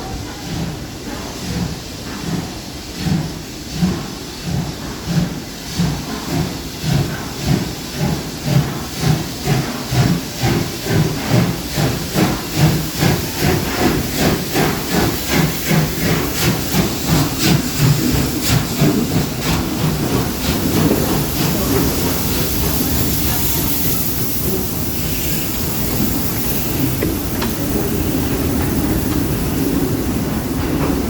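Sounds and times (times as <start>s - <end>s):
steam hissing: 0.0s - 31.0s
steam locomotives chuffing: 0.0s - 31.0s.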